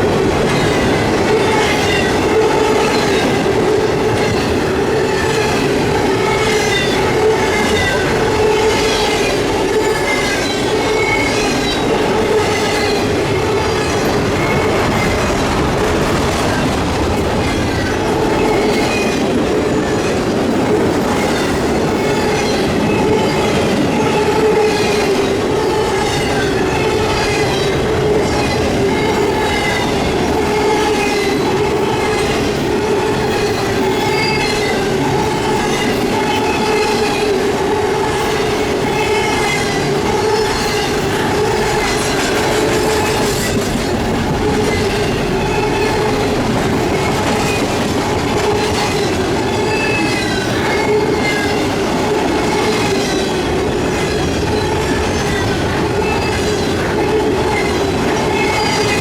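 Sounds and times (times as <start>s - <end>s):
train cars rolling past: 0.0s - 59.0s
wheels clacking and squealing: 0.1s - 37.3s, 38.2s - 59.0s.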